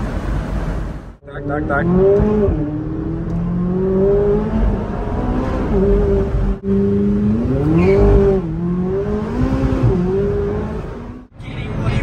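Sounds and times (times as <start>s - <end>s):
car engine accelerating: 1.2s - 12.0s.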